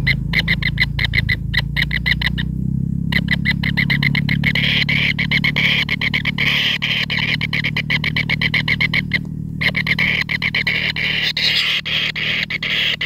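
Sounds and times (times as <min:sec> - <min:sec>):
bird nestlings rattling chatter: 0:00.0 - 0:02.5, 0:03.1 - 0:13.0.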